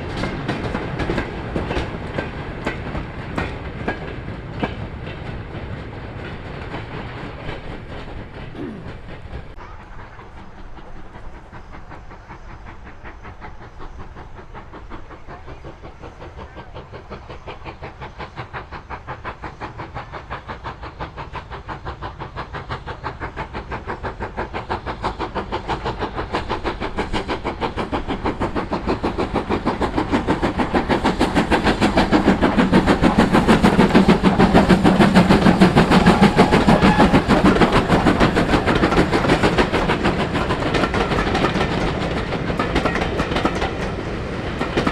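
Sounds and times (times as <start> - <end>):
steam locomotive chugging: 0.0 - 44.9.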